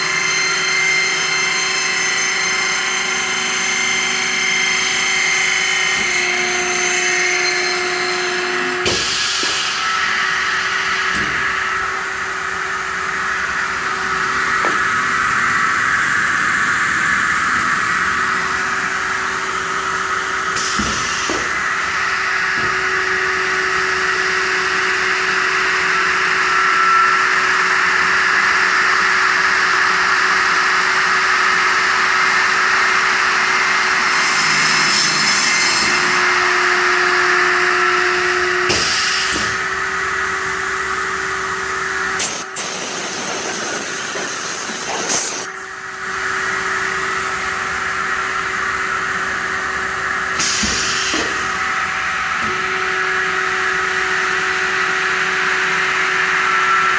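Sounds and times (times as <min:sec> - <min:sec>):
circular saw whirring: 0:00.0 - 0:56.9.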